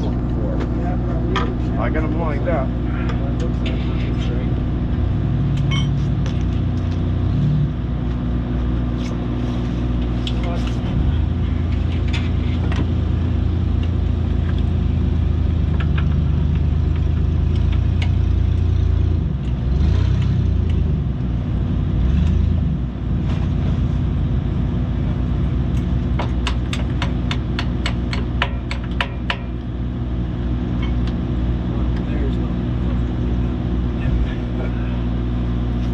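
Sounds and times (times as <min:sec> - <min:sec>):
heavy machine engine running: 0:00.0 - 0:35.9.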